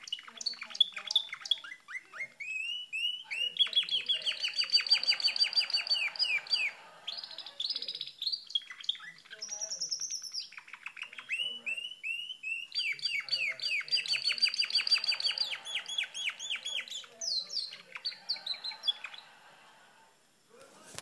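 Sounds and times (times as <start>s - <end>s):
canary singing: 0.0s - 19.8s.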